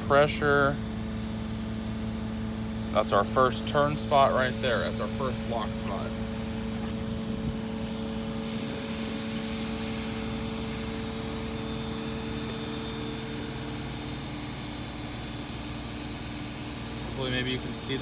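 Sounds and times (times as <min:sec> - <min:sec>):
steady machine drone: 0:00.0 - 0:18.0.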